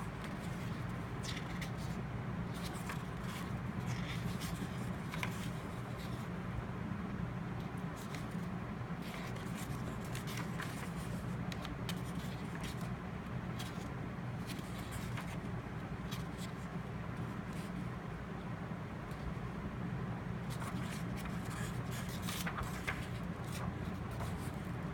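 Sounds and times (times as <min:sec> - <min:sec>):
low background hum: 0:00.0 - 0:24.9.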